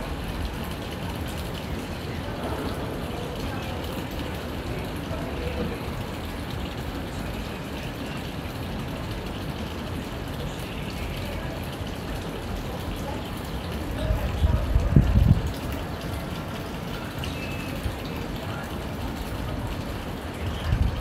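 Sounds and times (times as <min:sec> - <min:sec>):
rushing water-like noise: 0:00.0 - 0:21.0.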